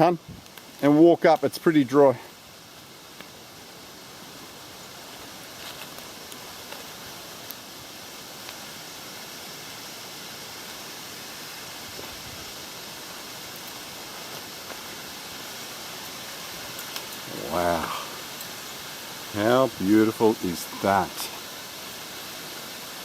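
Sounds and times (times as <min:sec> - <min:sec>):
water running down rocks: 0:00.0 - 0:23.0.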